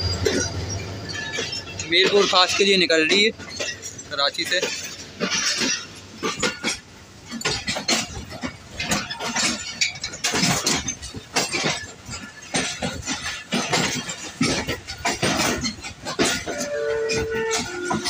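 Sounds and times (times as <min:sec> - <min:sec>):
train coaches passing: 0:00.0 - 0:18.0
wheels clanking over rails: 0:00.0 - 0:18.0.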